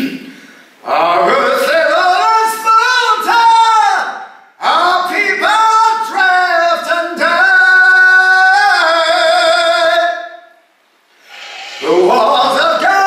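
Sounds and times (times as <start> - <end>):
man singing a cappella: 0.0 - 10.6, 11.8 - 13.0.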